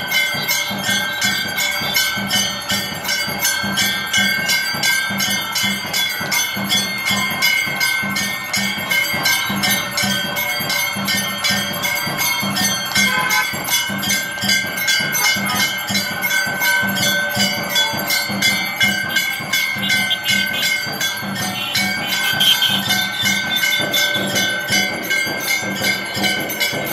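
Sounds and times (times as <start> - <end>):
brass bell ringing: 0.0 - 26.9
dull pulsing beat: 0.0 - 26.9.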